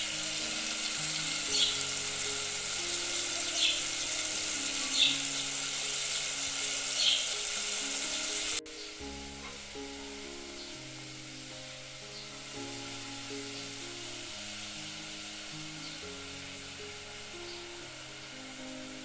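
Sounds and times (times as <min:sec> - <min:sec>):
oil crackles: 0:00.0 - 0:19.0
soft background music: 0:00.0 - 0:19.0
vegetables sizzling in hot oil: 0:00.0 - 0:19.0.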